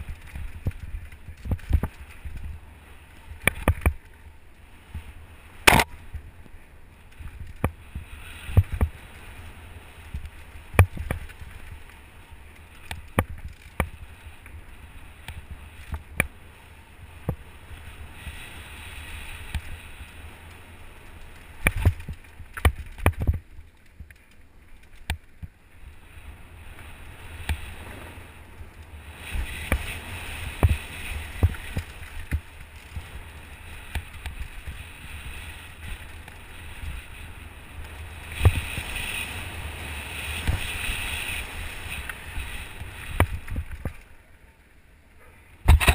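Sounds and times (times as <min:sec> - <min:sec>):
bike rattling over bumps: 0:00.0 - 0:44.6, 0:45.6 - 0:45.9
bike tyres rumbling on dirt: 0:00.0 - 0:44.7, 0:45.5 - 0:45.9.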